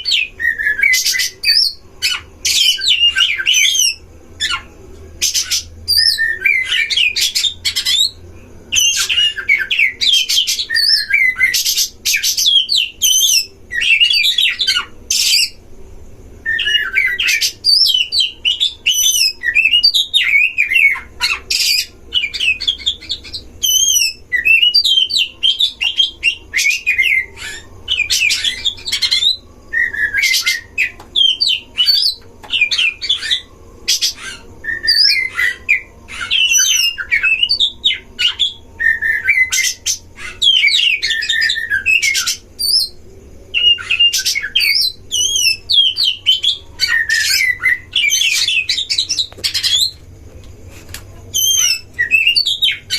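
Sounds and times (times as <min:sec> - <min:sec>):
birds singing whistled phrases: 0:00.0 - 0:15.6, 0:16.4 - 0:50.0, 0:51.3 - 0:52.9.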